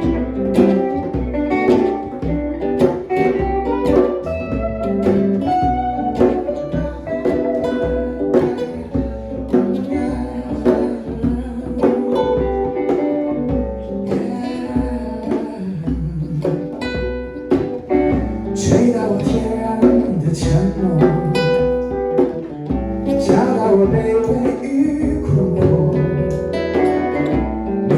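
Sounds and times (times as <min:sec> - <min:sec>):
acoustic and electric guitars: 0:00.0 - 0:27.9
low drum beat: 0:00.0 - 0:27.9.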